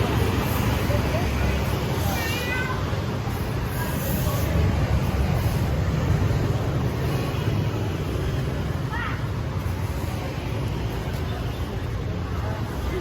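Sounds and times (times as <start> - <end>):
city street traffic passing: 0.0 - 13.0.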